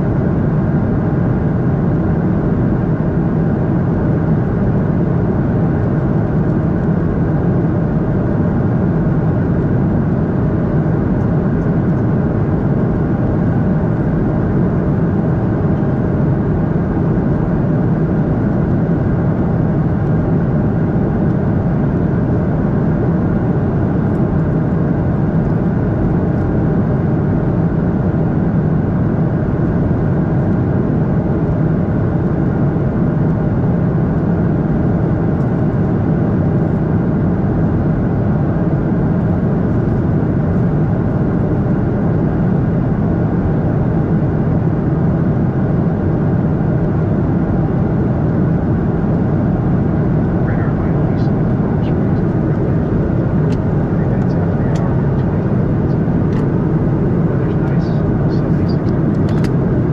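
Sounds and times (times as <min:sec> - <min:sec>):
jet engines and air rush in cabin: 0:00.0 - 0:59.9.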